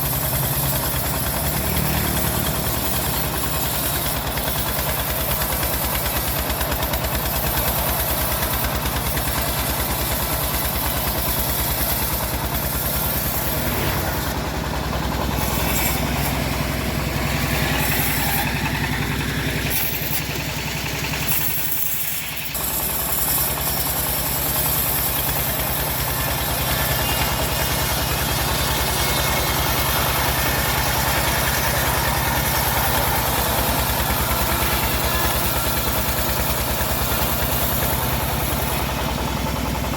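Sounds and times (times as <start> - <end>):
bandsaw mill engine running: 0.0 - 39.9.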